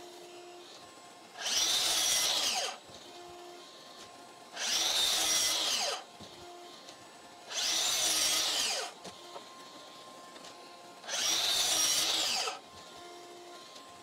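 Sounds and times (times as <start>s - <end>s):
miter saw whining and cutting wood: 0.0s - 14.0s.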